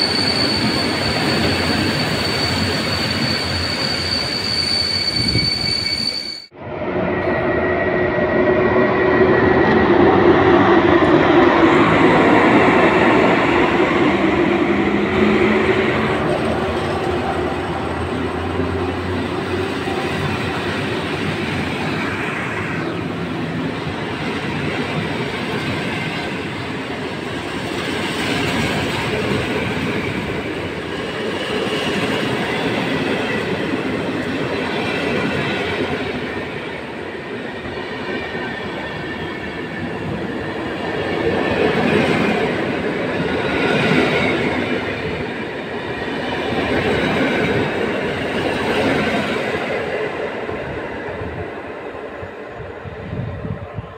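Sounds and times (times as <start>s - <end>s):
train wheels on rail: 0.0s - 53.9s.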